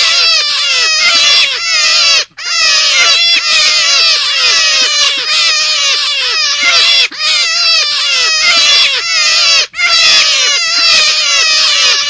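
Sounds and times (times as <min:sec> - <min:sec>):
rabbit call lure squeals: 0:00.0 - 0:12.0.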